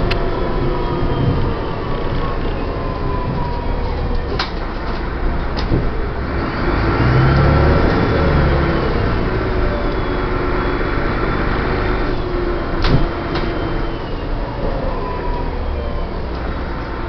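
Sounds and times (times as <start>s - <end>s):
whine sliding down in pitch: 0.0s - 5.4s, 6.4s - 17.0s
bus engine rumble: 0.0s - 17.0s.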